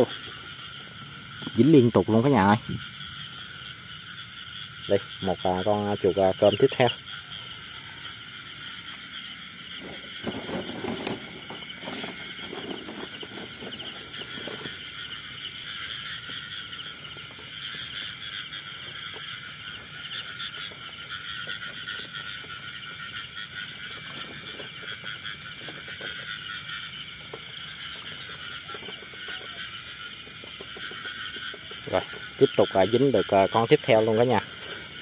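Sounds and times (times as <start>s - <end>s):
insects and frogs trilling: 0.0s - 35.0s.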